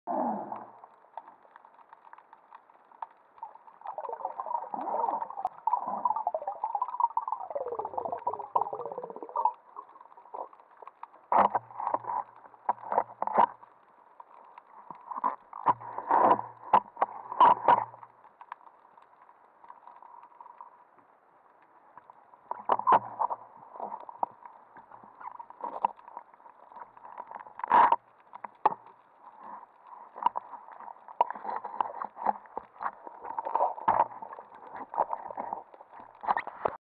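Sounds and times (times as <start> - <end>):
underwater water swishing: 0.1 - 36.8
underwater clicks and knocks: 0.2 - 36.8.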